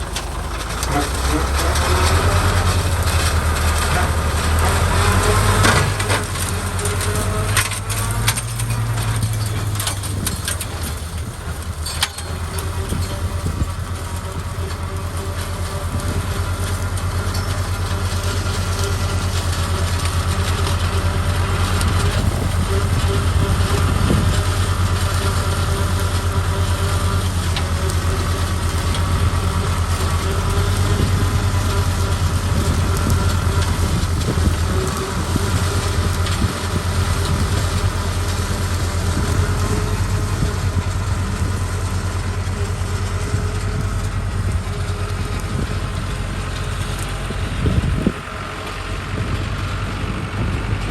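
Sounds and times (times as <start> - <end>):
flail mower working: 0.0 - 50.9
tractor engine drone: 0.0 - 50.9.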